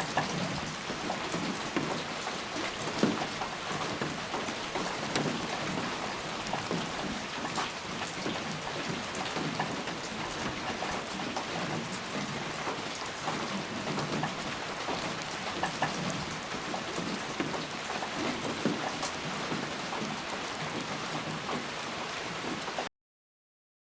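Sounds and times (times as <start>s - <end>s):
raindrops ticking on a surface: 0.0s - 22.9s
steady rain hiss: 0.0s - 22.9s.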